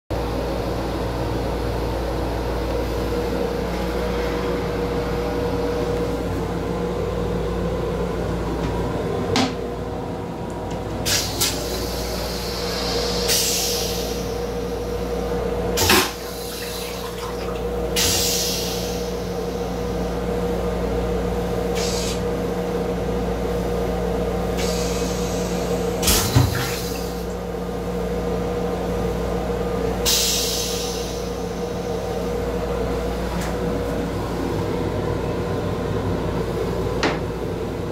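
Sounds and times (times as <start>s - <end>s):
steady train hum: 0.1s - 26.1s, 27.0s - 37.9s.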